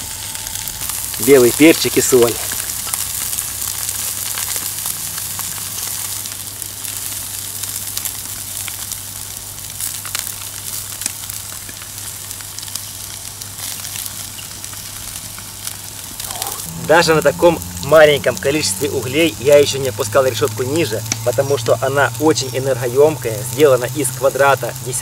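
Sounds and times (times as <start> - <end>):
fish sizzling on a grill: 0.0 - 25.0.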